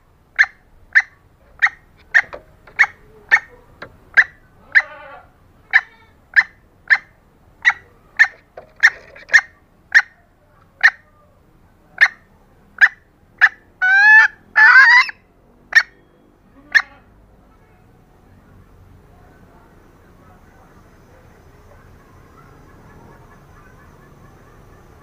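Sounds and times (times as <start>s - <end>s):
hen clucking: 0.4s - 11.2s, 11.9s - 17.1s, 20.4s - 25.0s.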